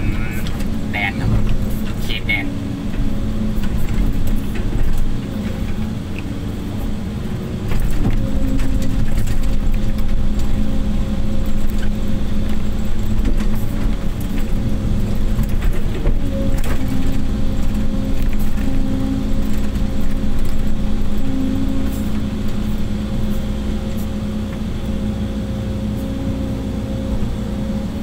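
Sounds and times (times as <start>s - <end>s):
diesel engine running: 0.0s - 28.0s
hydraulics whining: 0.0s - 28.0s.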